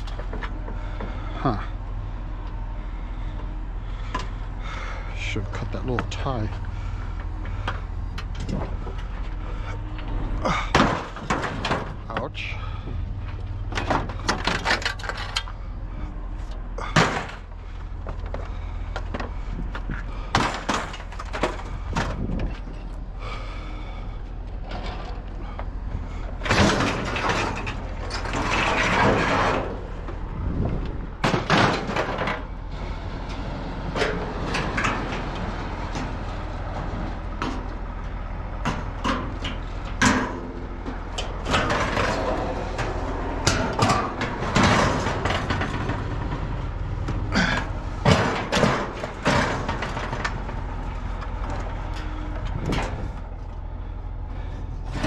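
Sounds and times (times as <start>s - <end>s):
steady low hum: 0.0s - 55.0s
scrap metal clanking and scraping: 3.0s - 55.0s.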